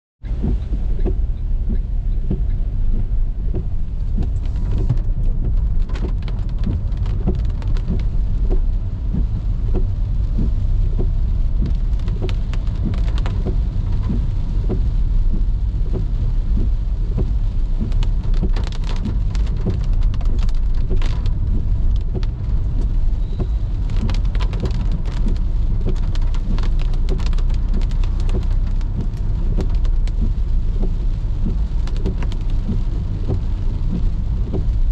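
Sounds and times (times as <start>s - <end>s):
car rumbling on wet road: 0.2s - 34.9s
rain pattering on a car: 0.2s - 34.9s.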